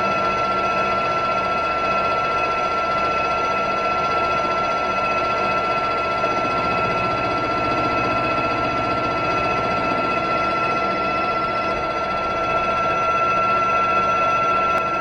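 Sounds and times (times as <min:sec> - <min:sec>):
machine tool whining: 0:00.0 - 0:15.0.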